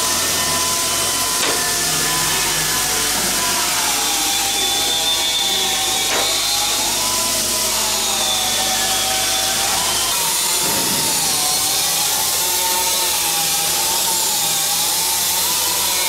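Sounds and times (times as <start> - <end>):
machine whine: 0.0 - 16.0.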